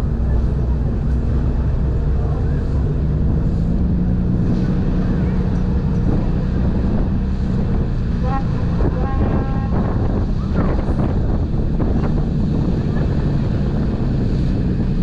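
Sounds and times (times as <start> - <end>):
ferry engine rumbling: 0.0 - 15.0
wind buffeting microphone: 0.0 - 15.0.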